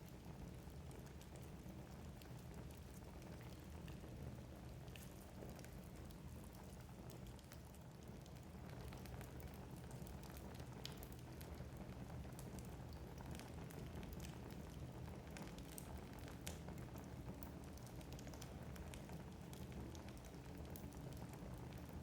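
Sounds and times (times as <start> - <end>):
low rumble of flames: 0.0 - 22.0
logs crackling and popping: 0.9 - 11.6, 12.3 - 22.0.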